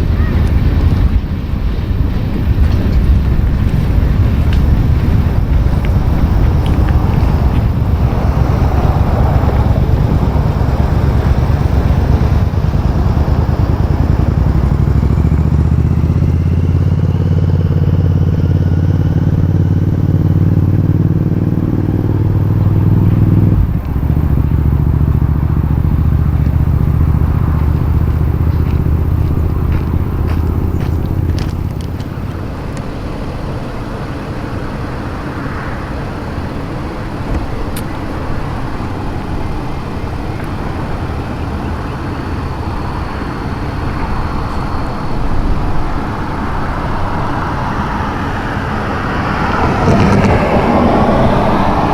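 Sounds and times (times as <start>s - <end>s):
diesel locomotive engine humming: 0.0s - 51.9s.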